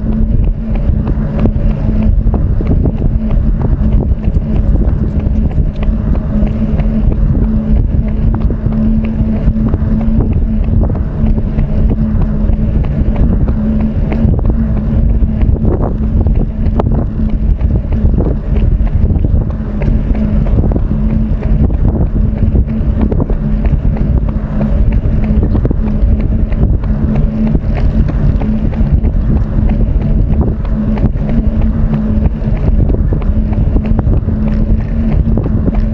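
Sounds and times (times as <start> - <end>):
steady low hum: 0.0 - 35.9
wind buffeting microphone: 0.0 - 35.9.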